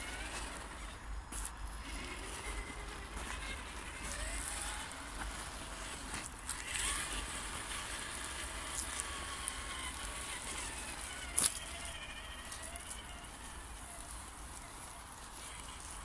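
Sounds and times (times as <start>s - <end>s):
toy car electric motor whining: 0.0s - 16.0s.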